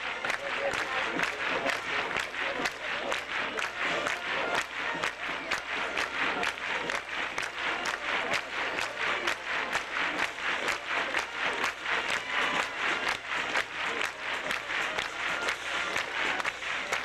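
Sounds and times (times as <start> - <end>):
crowd applause and noise: 0.0 - 17.0
rhythmic crowd clapping: 0.0 - 17.0.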